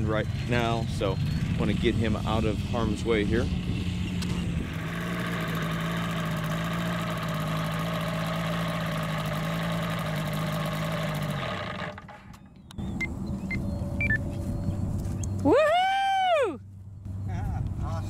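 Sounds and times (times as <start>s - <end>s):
engine idling with propeller: 0.0s - 15.5s.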